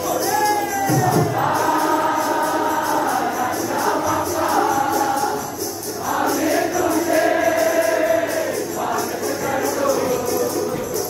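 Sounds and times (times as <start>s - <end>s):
group singing in chorus: 0.0s - 11.0s
tambourine jingles: 0.0s - 11.0s.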